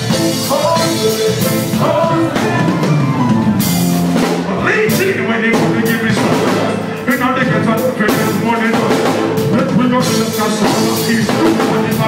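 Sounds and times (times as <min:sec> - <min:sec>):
live dancehall band music: 0:00.0 - 0:12.0.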